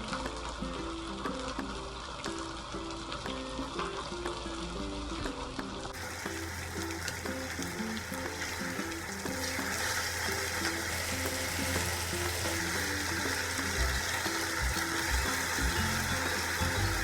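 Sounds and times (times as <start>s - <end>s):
food sizzling in a pan: 0.0s - 17.0s
soft background music: 0.0s - 17.0s.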